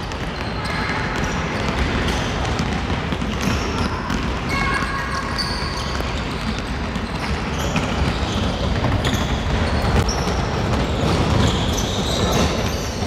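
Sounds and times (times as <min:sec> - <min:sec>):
basketballs bouncing on gym floor: 0:00.0 - 0:13.0.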